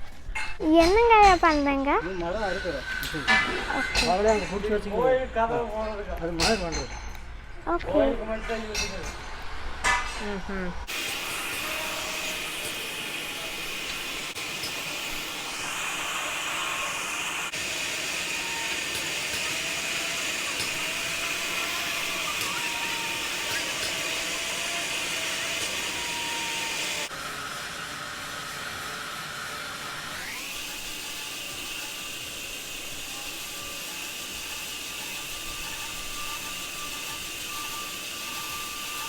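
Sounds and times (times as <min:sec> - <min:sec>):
factory machinery whine: 0:02.0 - 0:39.0.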